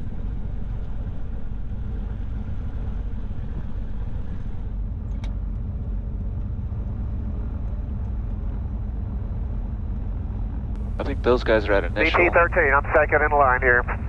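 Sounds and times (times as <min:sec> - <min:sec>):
aircraft engines idling: 0:00.0 - 0:14.0.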